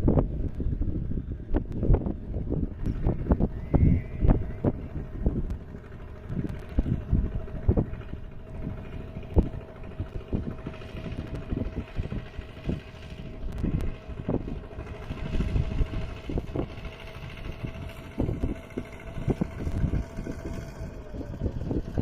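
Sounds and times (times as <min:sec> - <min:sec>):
diesel tractor engine running: 0:00.0 - 0:22.0.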